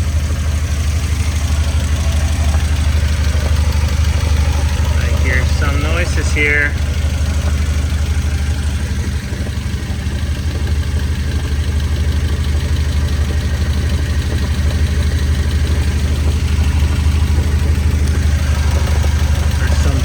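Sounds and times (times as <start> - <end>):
car engine idling: 0.0 - 20.0
transmission clunking: 0.0 - 20.0.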